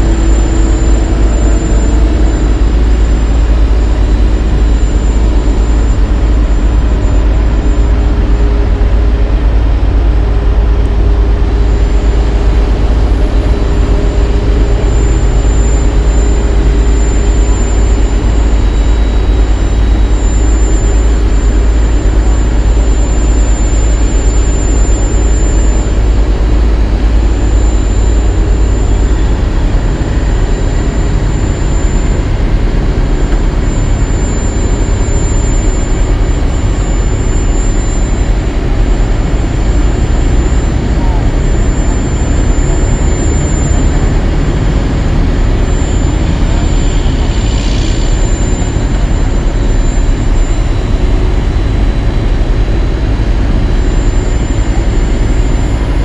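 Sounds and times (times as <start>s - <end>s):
heavy diesel engines droning: 0.0s - 56.0s.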